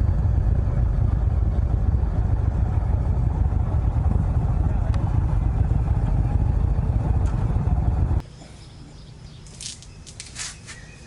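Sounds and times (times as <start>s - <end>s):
motorcycle engine rumble: 0.0s - 10.8s.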